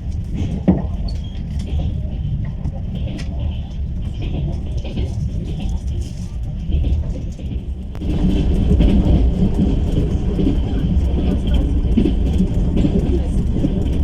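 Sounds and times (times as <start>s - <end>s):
train carriage rumbling on rails: 0.0s - 14.0s.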